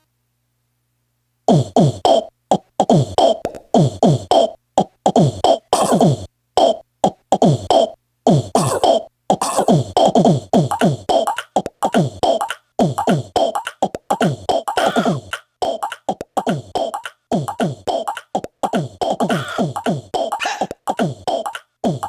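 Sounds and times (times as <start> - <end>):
sampled vocal hits: 1.5 - 22.0.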